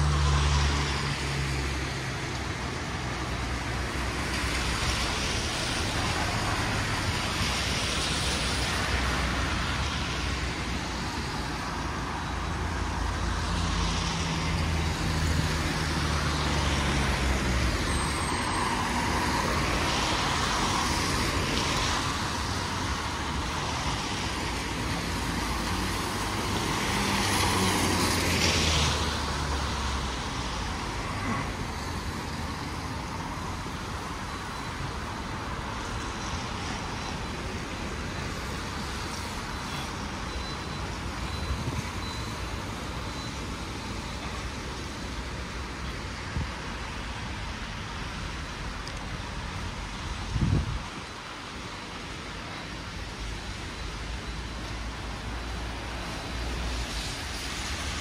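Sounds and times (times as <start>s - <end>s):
cars passing on wet road: 0.0s - 58.0s.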